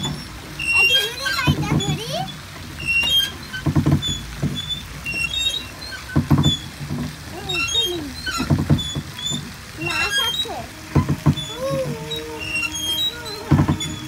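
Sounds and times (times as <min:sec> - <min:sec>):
short high squeaks: 0:00.0 - 0:06.8, 0:07.4 - 0:14.0
pedal boat paddles knocking and sloshing: 0:00.0 - 0:14.0.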